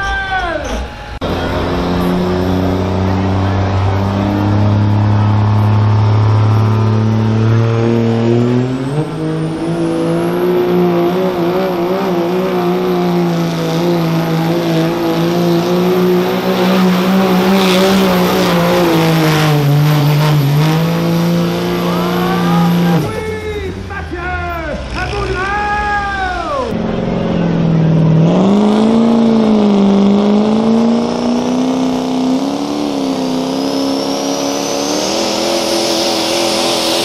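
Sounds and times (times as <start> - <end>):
diesel engine at full throttle: 0.0 - 37.0.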